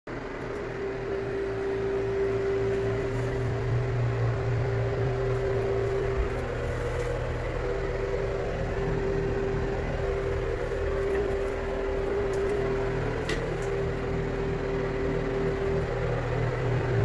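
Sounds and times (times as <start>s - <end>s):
motor humming: 0.1s - 17.0s.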